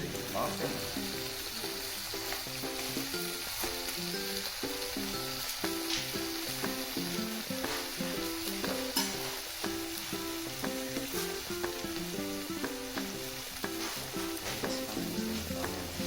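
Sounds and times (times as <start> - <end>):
food sizzling: 0.0 - 16.0
light background music: 0.0 - 16.0.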